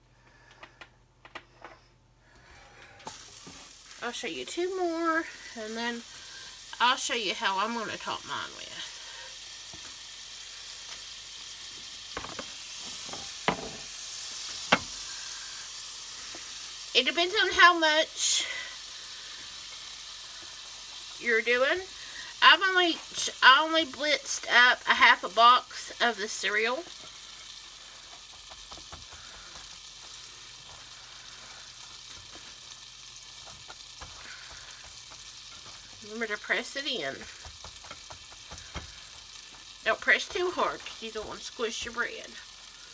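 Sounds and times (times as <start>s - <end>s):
butter sizzling in a skillet: 2.9s - 42.9s.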